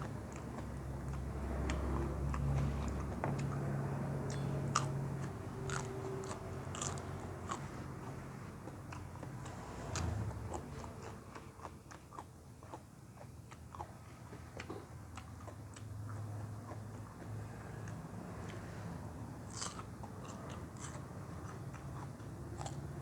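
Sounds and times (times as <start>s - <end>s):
person chewing crunchy vegetables: 0.0s - 23.0s.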